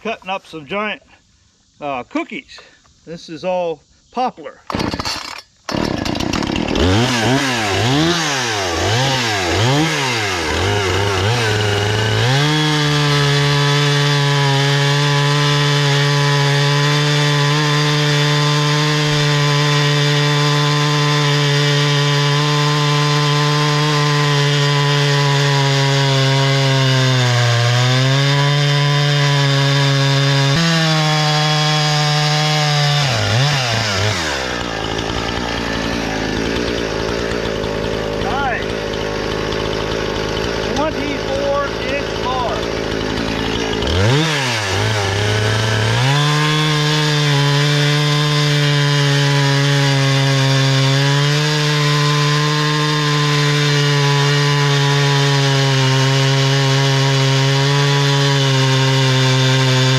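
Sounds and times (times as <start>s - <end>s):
chainsaw cutting log: 4.7s - 59.9s.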